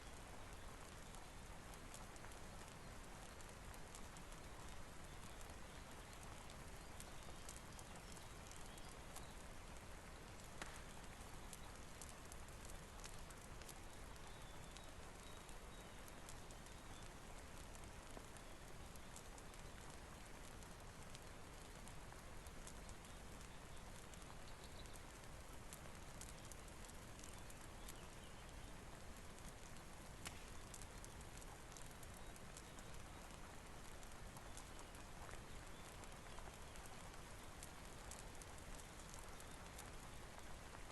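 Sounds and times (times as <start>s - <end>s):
rain hiss: 0.0s - 40.9s
wood fire crackling: 0.0s - 40.9s.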